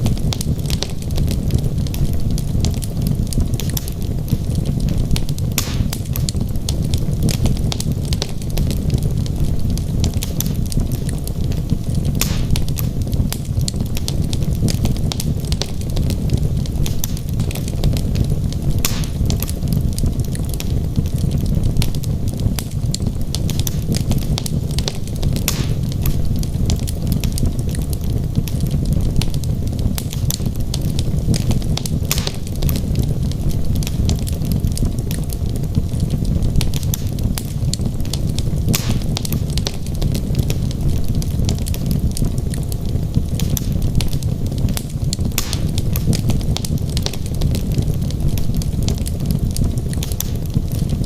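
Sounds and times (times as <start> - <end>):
fire crackling and popping: 0.0 - 51.0
fire rumbling: 0.0 - 51.0.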